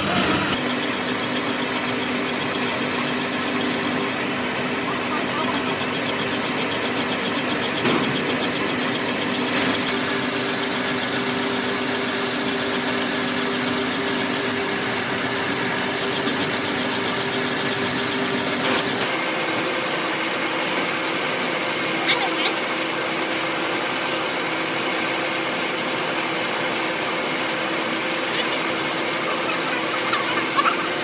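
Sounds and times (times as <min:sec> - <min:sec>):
machine humming and hissing: 0:00.0 - 0:31.0.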